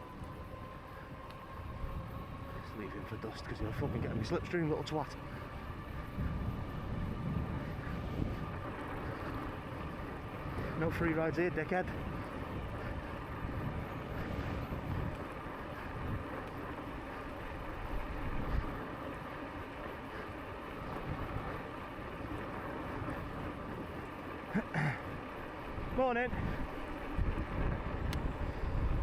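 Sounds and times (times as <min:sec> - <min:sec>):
low steady rumble of bike rolling: 0:00.0 - 0:29.0
wind rushing over microphone: 0:00.0 - 0:29.0.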